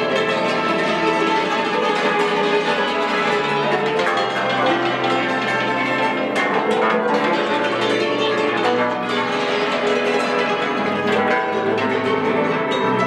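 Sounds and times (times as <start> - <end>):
hammered dulcimers playing folk melody: 0.0 - 13.0.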